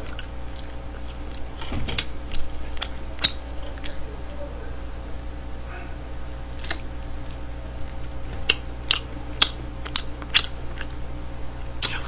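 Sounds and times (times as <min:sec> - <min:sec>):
pulling meat off bone: 0:00.0 - 0:11.0
person chewing wetly: 0:00.0 - 0:12.0
steady low hum: 0:00.0 - 0:12.0.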